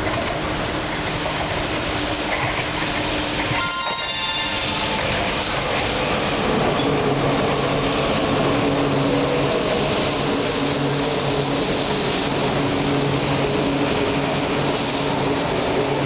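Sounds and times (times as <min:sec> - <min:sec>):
train steady hum: 0:00.0 - 0:16.0.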